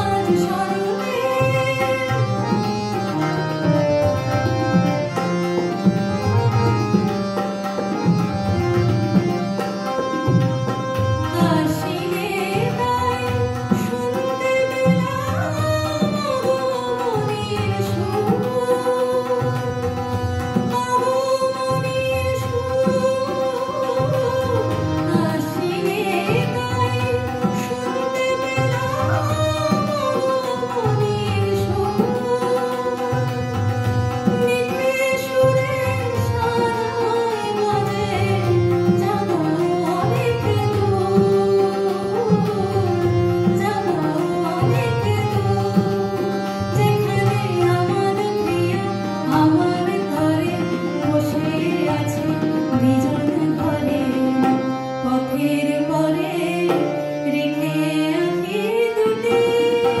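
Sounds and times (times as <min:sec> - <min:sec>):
woman singing: 0:00.0 - 0:08.2, 0:10.2 - 1:00.0
harmonium: 0:00.0 - 1:00.0
tabla rhythm: 0:00.0 - 1:00.0.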